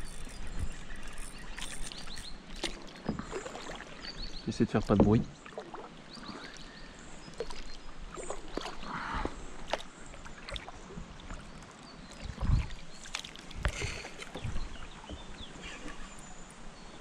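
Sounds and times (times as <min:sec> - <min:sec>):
paddle splashes: 0:00.8 - 0:11.5, 0:12.1 - 0:16.2.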